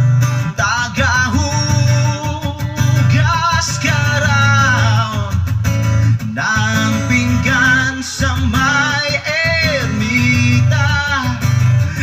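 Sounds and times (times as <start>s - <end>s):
loud guitar song with heavy bass: 0.0s - 12.0s.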